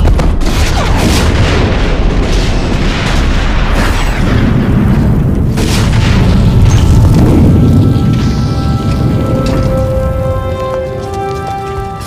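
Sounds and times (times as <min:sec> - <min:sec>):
explosion booms with low rumble: 0:00.0 - 0:09.9
debris: 0:00.0 - 0:12.0.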